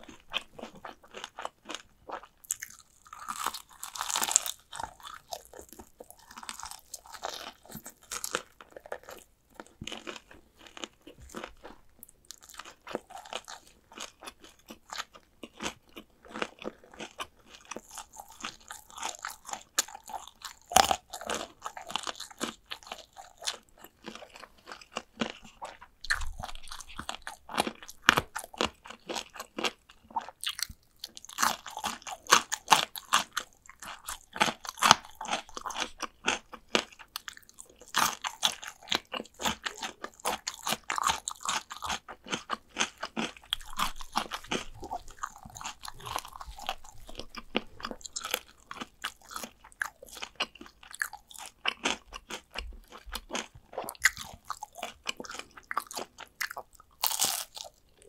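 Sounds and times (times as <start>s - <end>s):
crunching and chewing fried chicken: 0.0s - 58.0s.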